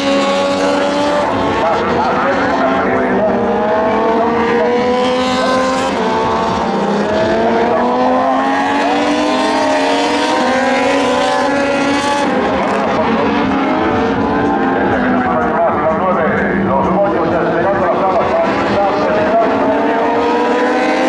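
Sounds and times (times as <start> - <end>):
racing motorcycles passing at high revs: 0.0 - 21.0.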